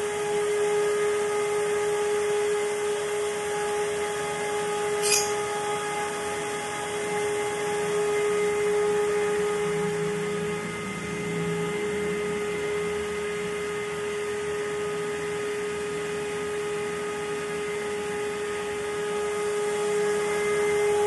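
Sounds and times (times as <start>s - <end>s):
fan whine and air rush: 0.0s - 21.0s.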